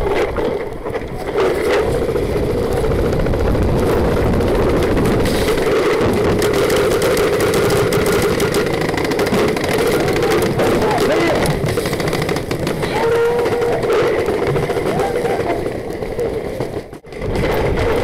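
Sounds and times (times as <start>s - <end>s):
wind rumble on microphone: 0.0s - 16.3s, 17.0s - 18.0s
fast sharp clicks: 0.0s - 18.0s.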